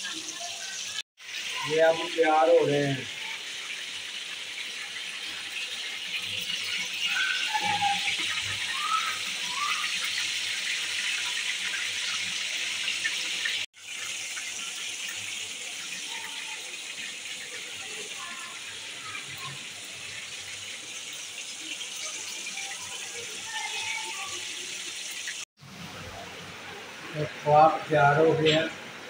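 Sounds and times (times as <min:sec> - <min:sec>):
meat patties sizzling in oil: 0:00.0 - 0:29.0.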